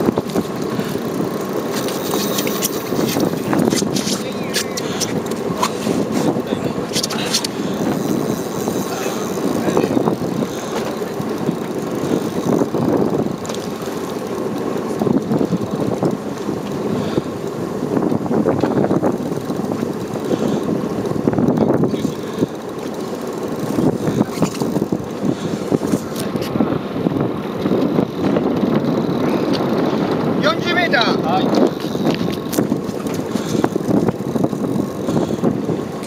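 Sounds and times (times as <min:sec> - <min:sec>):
boat engine running: 0:00.0 - 0:36.0
wind buffeting microphone: 0:00.0 - 0:36.0.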